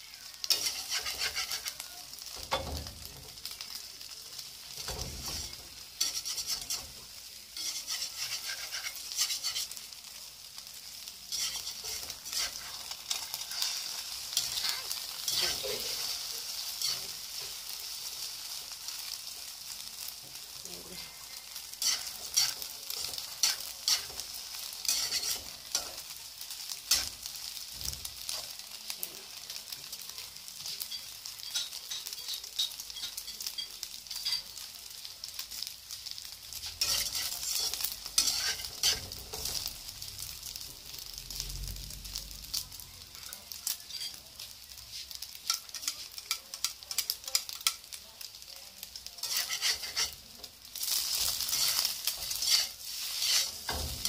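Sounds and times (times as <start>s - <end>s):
metal spatula scraping a pan: 0.0s - 3.8s, 4.6s - 10.0s, 11.0s - 19.5s, 20.3s - 28.6s, 30.6s - 34.7s, 36.2s - 41.2s, 42.5s - 48.0s, 49.1s - 54.0s
eggs sizzling in hot oil: 0.0s - 54.0s.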